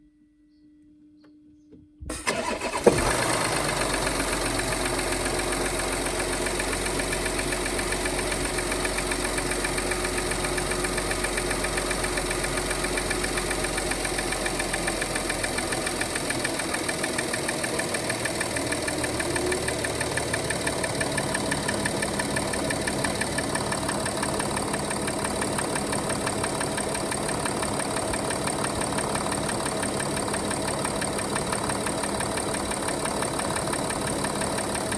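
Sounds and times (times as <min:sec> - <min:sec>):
diesel engine cranking and starting: 0:02.1 - 0:34.9
diesel engine idling: 0:02.2 - 0:34.9.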